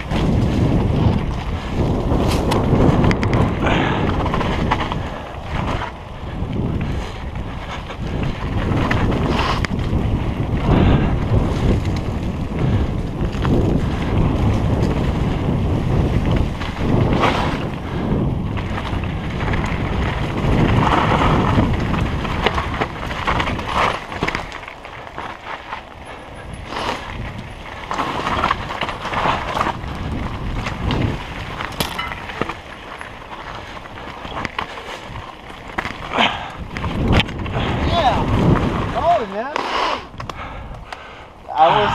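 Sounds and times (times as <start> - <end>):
bike knocking and rattling: 0.0 - 41.2
bike tyres rumbling on dirt: 0.0 - 41.9
wind rushing over microphone: 0.0 - 41.9.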